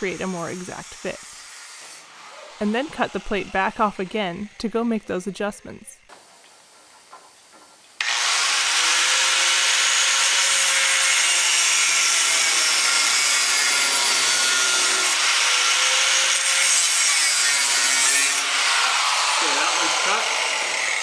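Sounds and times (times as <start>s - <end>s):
angle grinder cutting steel: 0.0s - 5.1s, 8.0s - 21.0s.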